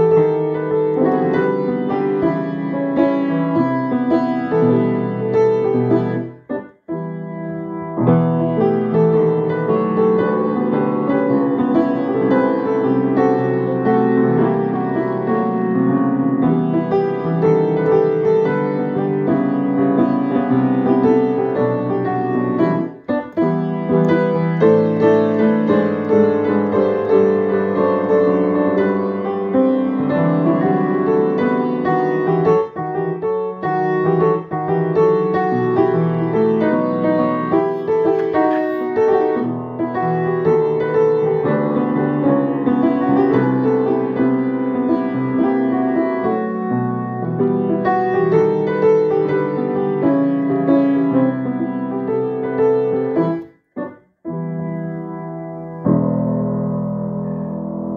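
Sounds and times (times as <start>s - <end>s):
solo piano: 0.0s - 57.9s.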